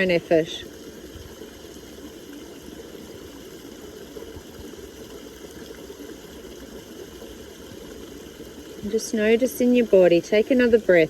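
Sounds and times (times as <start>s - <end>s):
creek trickling over stones: 0.0s - 11.0s.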